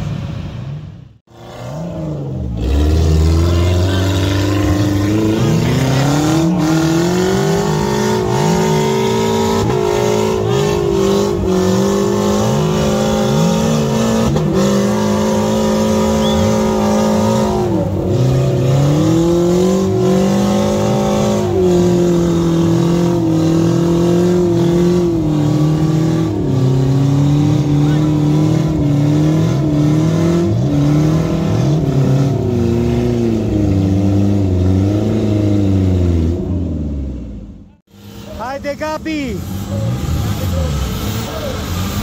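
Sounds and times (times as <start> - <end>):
off-road engines revving: 0.0 - 42.0.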